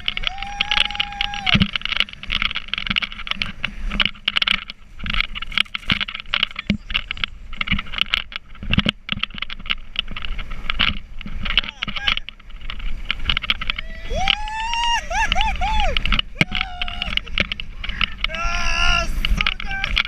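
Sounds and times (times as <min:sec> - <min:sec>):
boat thumping over waves: 0:00.0 - 0:20.0
wind buffeting the camera: 0:00.0 - 0:20.0.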